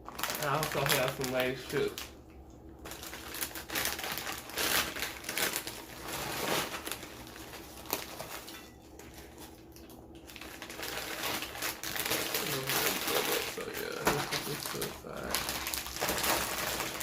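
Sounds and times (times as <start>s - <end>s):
chip bag crinkling: 0.0s - 2.2s, 2.8s - 17.0s.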